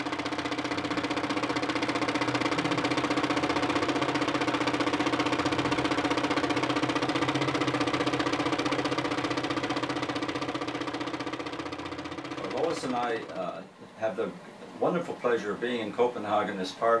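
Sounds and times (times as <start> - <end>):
film projector clatter: 0.0 - 17.0
motor hum: 0.0 - 17.0.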